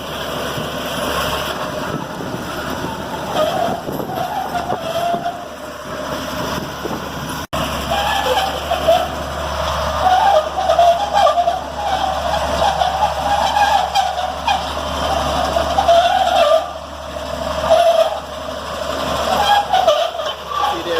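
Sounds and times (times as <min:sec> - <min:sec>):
road-works machinery digging asphalt: 0:00.0 - 0:20.9.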